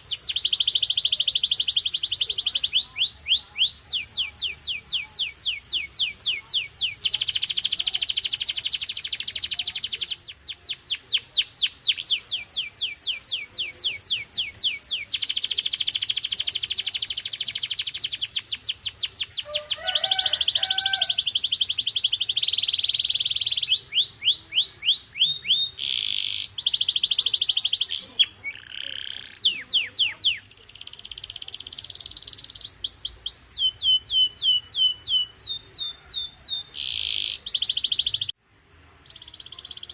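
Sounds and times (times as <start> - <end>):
canary singing: 0.0 - 38.4, 39.0 - 39.9.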